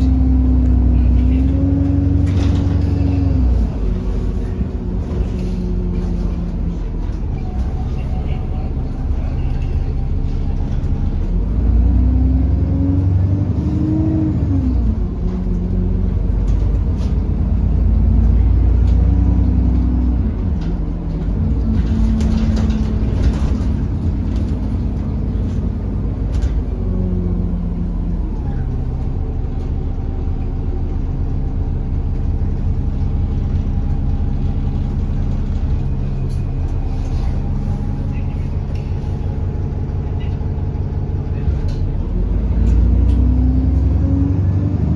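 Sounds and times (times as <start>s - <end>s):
bus engine hum: 0.0s - 44.9s.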